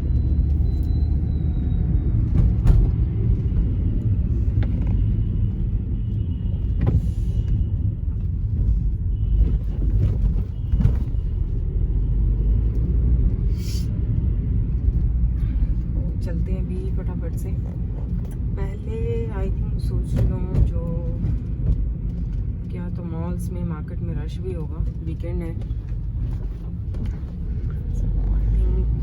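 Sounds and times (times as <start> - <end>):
engine and road noise: 0.0 - 29.0.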